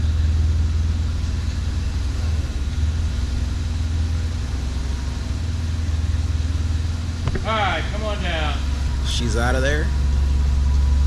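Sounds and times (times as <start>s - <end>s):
forklift engine droning: 0.0s - 11.0s.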